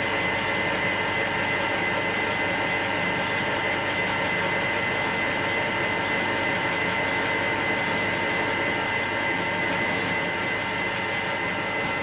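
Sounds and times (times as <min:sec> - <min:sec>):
metal lathe cutting: 0:00.0 - 0:12.0.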